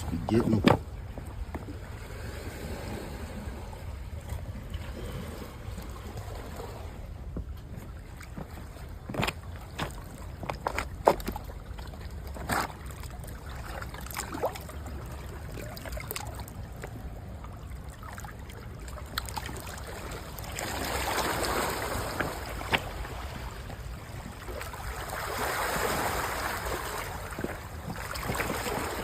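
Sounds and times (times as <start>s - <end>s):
water rumbling at a dam: 0.0s - 29.0s.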